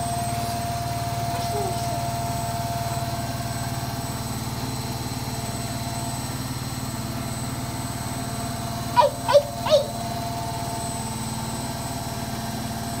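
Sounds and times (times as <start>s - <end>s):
faint steady whine: 0.0s - 13.0s
washing machine running: 0.0s - 13.0s.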